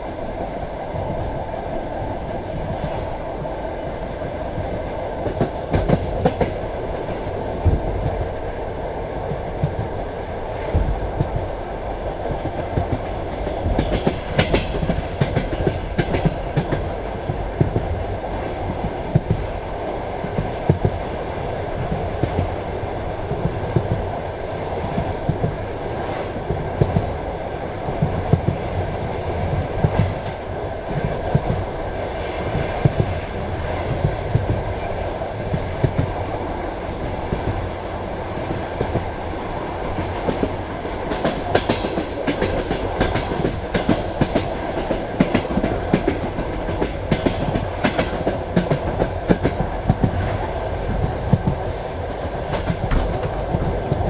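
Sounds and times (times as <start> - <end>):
train carriage rumbling on track: 0.0 - 54.0.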